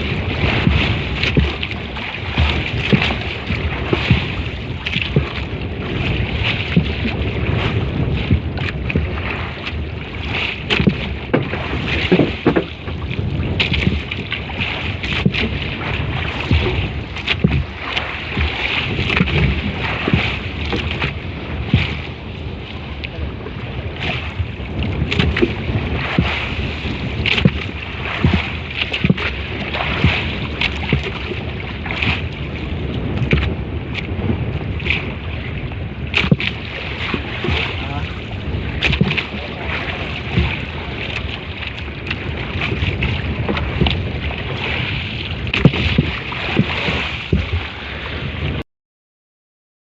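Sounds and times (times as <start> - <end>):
water knocking and splashing on hull: 0.0 - 48.6
wind and water rushing: 0.0 - 48.6.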